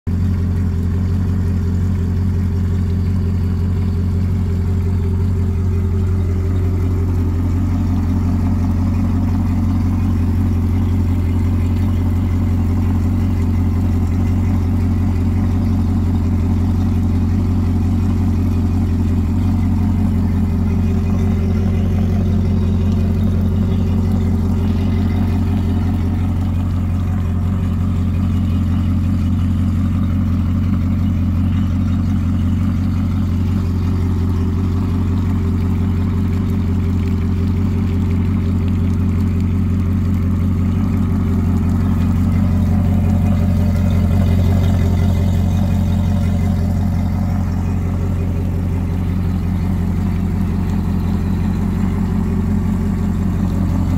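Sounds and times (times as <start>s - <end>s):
outboard engine running: 0.0s - 53.9s.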